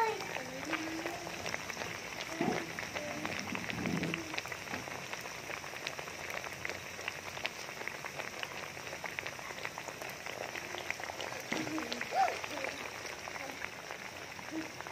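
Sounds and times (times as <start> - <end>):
batter deep-frying in hot oil: 0.0 - 14.9.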